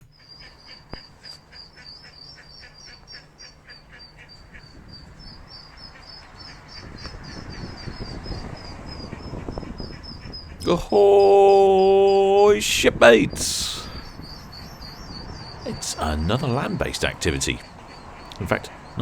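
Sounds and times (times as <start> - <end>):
ducklings peeping: 0.0 - 19.0.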